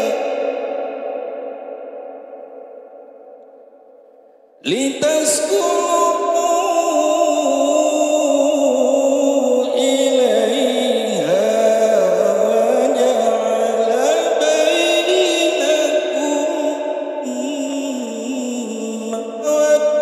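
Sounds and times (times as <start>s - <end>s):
man chanting into a microphone: 0.0s - 2.2s, 4.6s - 20.0s.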